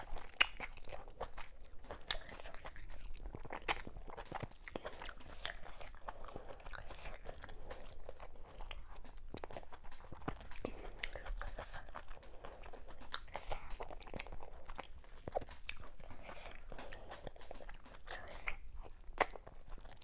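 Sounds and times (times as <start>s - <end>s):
chewing with wet smacks: 0.0s - 20.0s.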